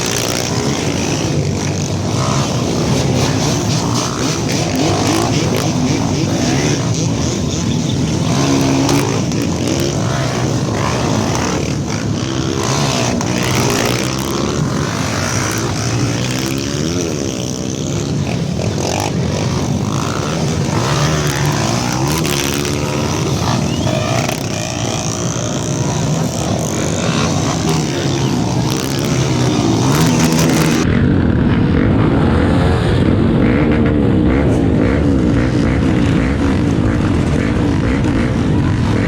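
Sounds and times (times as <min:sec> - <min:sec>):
motorcycles revving together: 0:00.0 - 0:30.9, 0:32.4 - 0:39.0.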